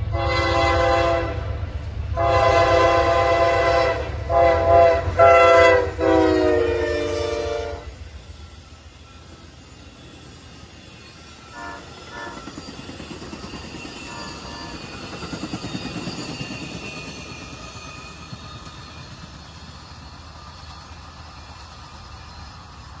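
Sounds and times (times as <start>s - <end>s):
train wheels clacking on rails: 2.3s - 23.0s.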